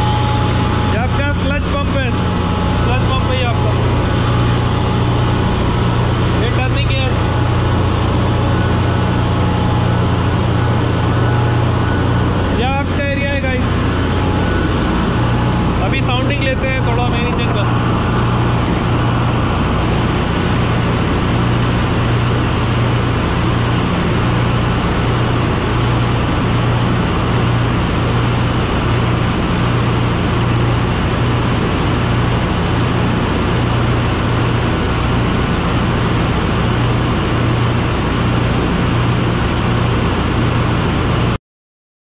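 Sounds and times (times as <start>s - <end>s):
engine room machinery drone: 0.0s - 41.4s.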